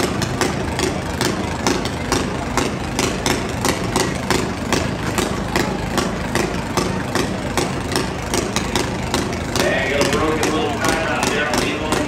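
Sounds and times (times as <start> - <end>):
lawn tractor engines rattling: 0.0 - 12.0.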